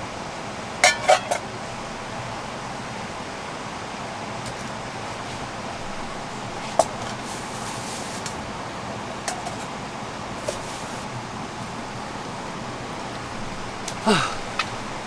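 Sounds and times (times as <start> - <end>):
rain hissing on a tent: 0.0 - 15.0.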